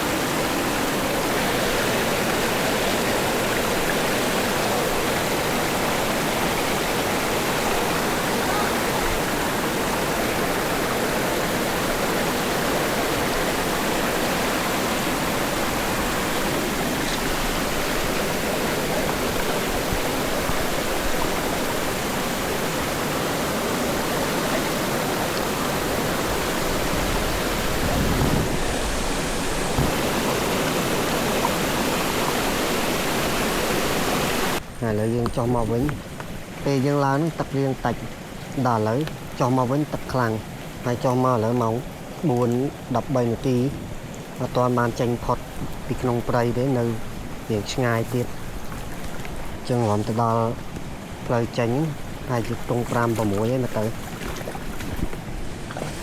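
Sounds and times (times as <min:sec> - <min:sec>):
fast-flowing water rushing: 0:00.0 - 0:56.0.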